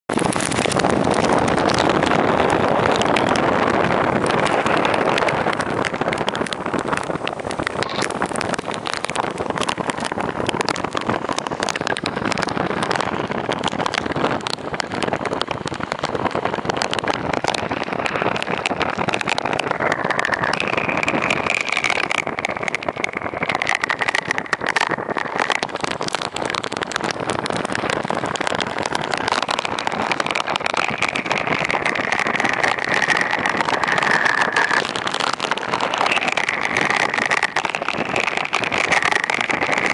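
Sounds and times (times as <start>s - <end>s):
heavy rain: 0.1s - 39.9s
hurricane wind gusting: 0.1s - 39.9s
wind buffeting microphone: 0.1s - 39.9s.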